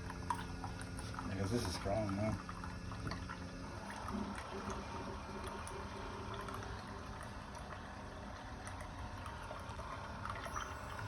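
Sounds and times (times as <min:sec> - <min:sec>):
coffee streaming into cup: 0:00.0 - 0:11.0.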